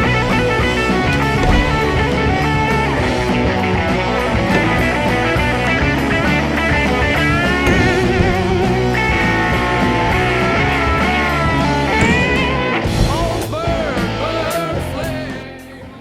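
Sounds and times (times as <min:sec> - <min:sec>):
electric guitar bending melody: 0:00.0 - 0:15.5.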